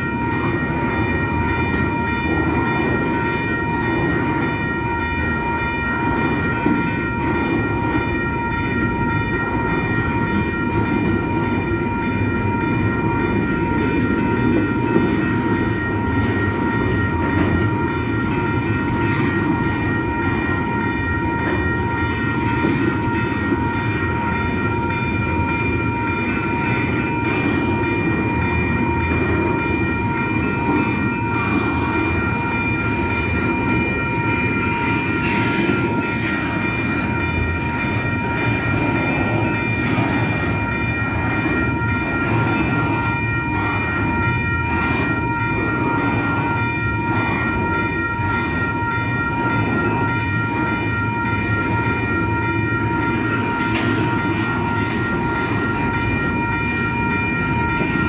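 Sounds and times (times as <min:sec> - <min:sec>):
high ringing tone: 0:00.0 - 0:58.0
train rumbling on rails: 0:00.0 - 0:58.0.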